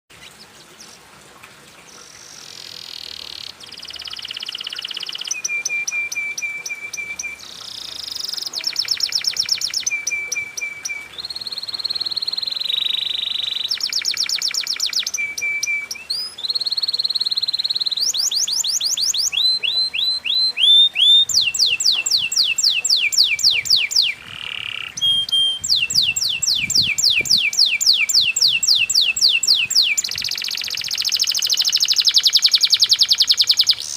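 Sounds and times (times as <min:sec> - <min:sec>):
canary singing: 0:02.4 - 0:33.9.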